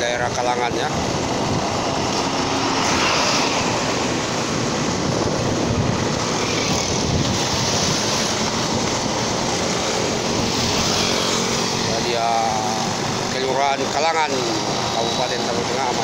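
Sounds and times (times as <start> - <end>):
wind on microphone: 0.0 - 13.3
road traffic: 0.0 - 16.0
vehicle running noise: 0.0 - 16.0.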